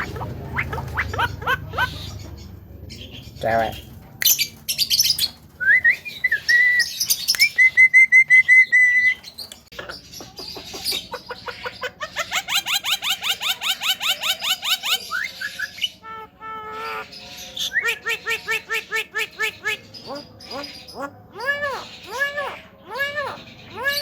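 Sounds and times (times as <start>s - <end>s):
bird chattering: 0.0s - 5.4s, 8.7s - 24.0s.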